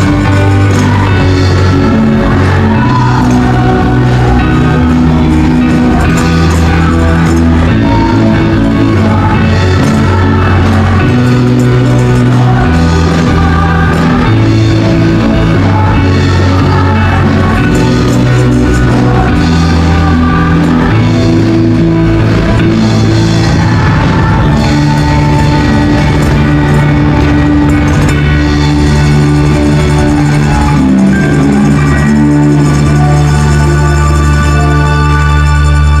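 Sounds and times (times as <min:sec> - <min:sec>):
band playing worship song: 0:00.0 - 0:36.0
bass line: 0:00.0 - 0:36.0
voices singing: 0:00.0 - 0:36.0.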